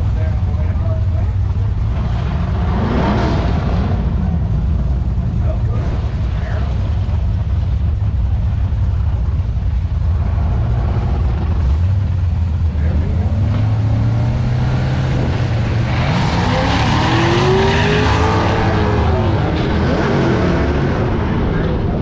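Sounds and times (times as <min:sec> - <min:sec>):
drag car engines idling: 0:00.0 - 0:22.0
drag cars launching full throttle: 0:00.0 - 0:22.0.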